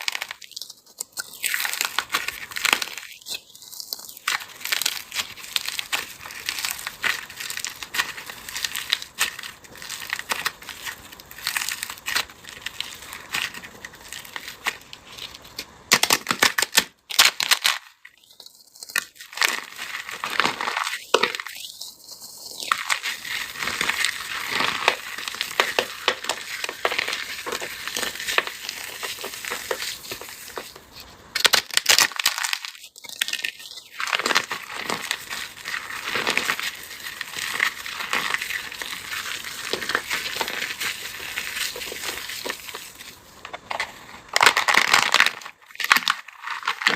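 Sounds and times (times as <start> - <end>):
brittle material crunching: 0.0 - 46.9.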